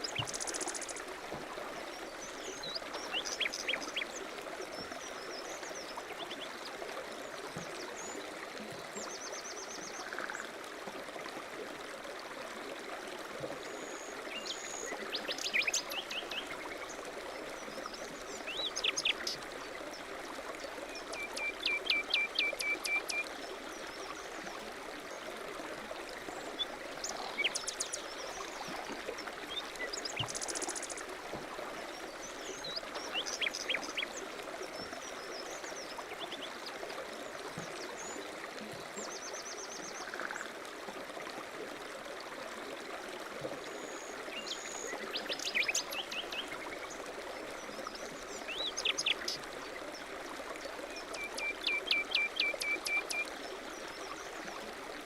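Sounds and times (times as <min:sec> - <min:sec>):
stream running: 0:00.0 - 0:55.0.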